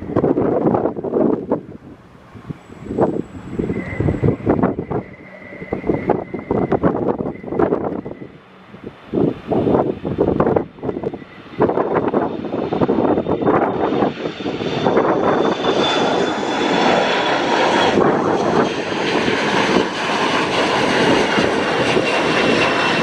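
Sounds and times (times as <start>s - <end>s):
jet taking off: 0.0s - 23.0s
wind buffeting microphone: 0.0s - 23.0s.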